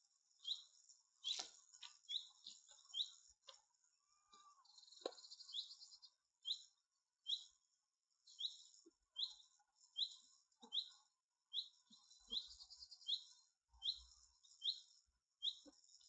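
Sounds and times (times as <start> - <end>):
buzzy bird trill: 0.4 - 3.2, 4.1 - 7.6, 8.2 - 15.8
songbird chirping: 0.4 - 3.2, 4.0 - 7.6, 8.2 - 15.7.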